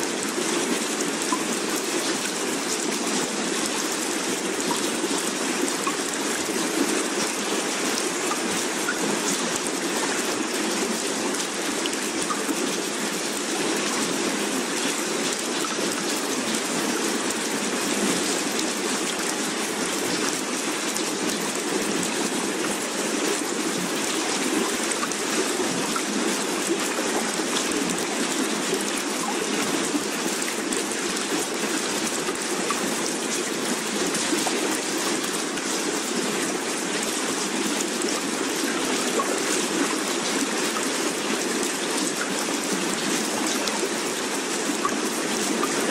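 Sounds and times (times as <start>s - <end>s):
hiss of rushing water or rain: 0.0s - 45.9s.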